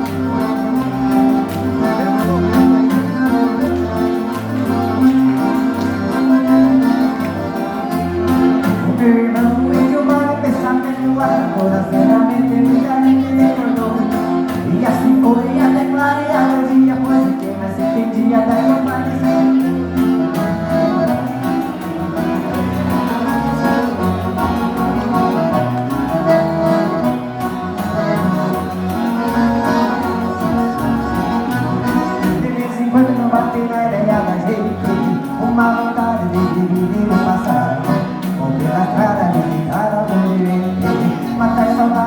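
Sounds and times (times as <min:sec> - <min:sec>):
accordion: 0:00.0 - 0:42.0.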